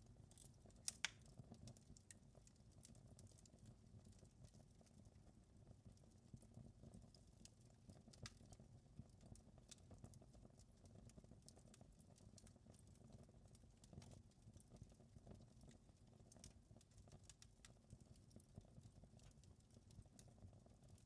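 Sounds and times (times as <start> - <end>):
faint wood fire crackling: 0.0 - 21.0.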